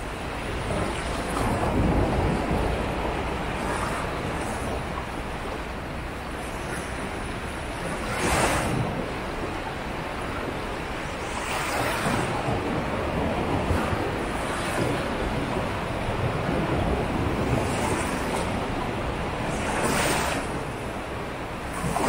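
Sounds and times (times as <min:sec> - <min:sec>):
waves breaking on beach: 0:00.0 - 0:22.0
wind rumble on microphone: 0:00.0 - 0:22.0.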